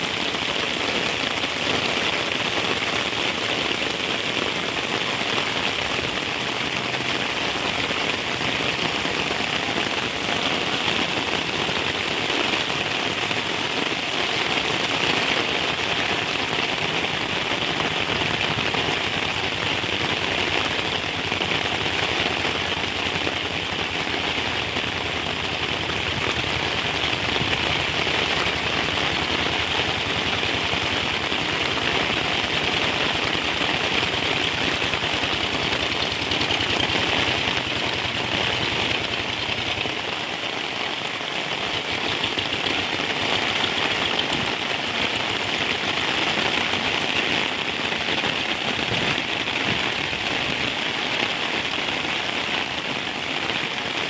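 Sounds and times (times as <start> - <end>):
heavy rain patter: 0.0 - 54.0.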